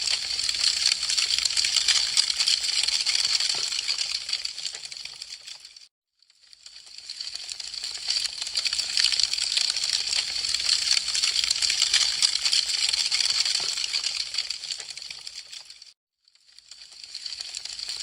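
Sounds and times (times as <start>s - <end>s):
wood fire crackling: 0.0s - 5.9s, 6.5s - 15.9s, 16.6s - 18.0s.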